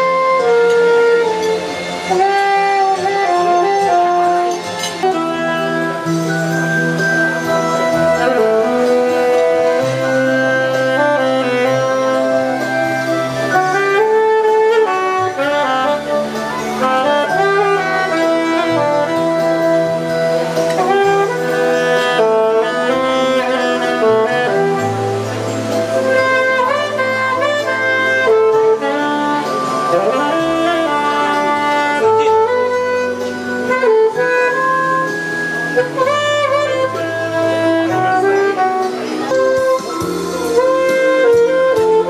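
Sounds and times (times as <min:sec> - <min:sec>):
saxophone melody: 0:00.0 - 0:42.0.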